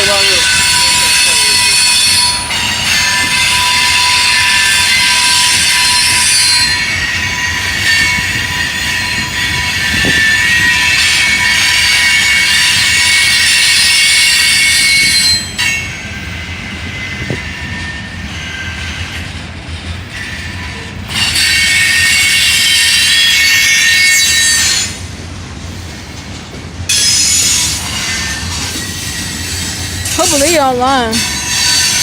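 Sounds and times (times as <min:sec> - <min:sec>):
train rumbling past: 0:00.0 - 0:32.0
train wheels squealing: 0:00.0 - 0:32.0.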